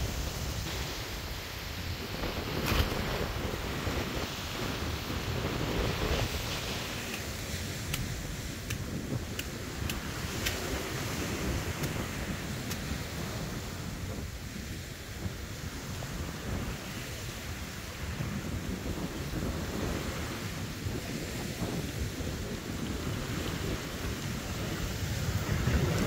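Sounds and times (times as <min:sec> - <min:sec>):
waves breaking: 0:00.0 - 0:26.0
wind on microphone: 0:00.0 - 0:26.0.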